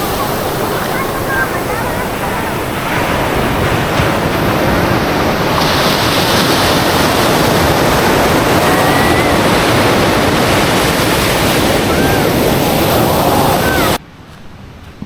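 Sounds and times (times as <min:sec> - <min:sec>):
waves breaking: 0:00.0 - 0:15.0
wind buffeting microphone: 0:00.0 - 0:15.0.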